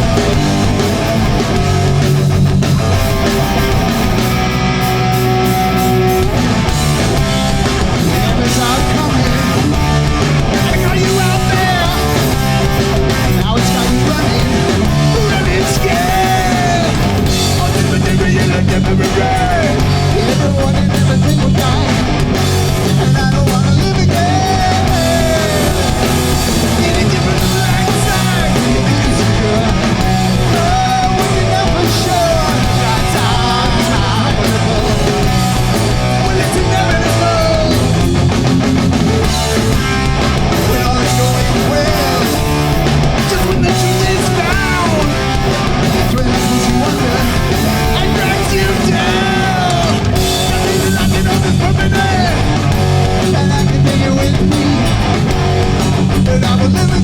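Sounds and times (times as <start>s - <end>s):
punk band playing live: 0.0s - 57.0s
person singing: 7.9s - 22.1s, 22.9s - 38.0s, 39.4s - 55.3s, 56.0s - 57.0s.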